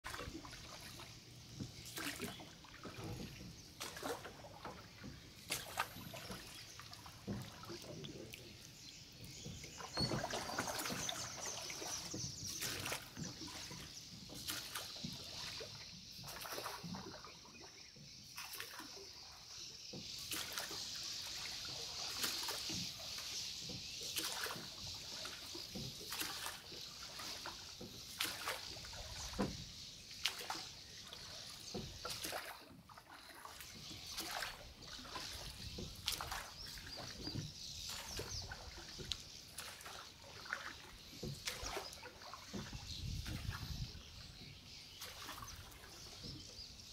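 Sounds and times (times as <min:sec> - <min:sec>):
water splashing around boat: 0:00.0 - 0:46.9.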